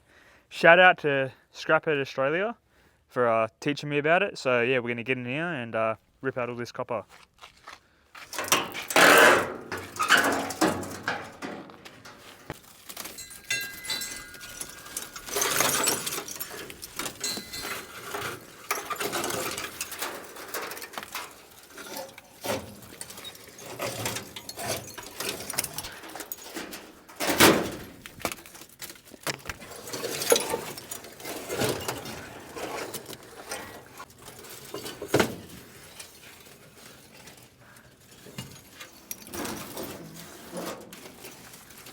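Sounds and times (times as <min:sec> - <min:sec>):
wire scraping and rattling: 0:08.2 - 0:41.9.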